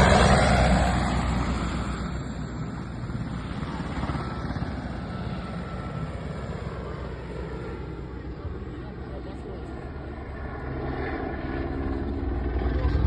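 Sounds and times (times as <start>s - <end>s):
helicopter flying by: 0.0s - 13.0s.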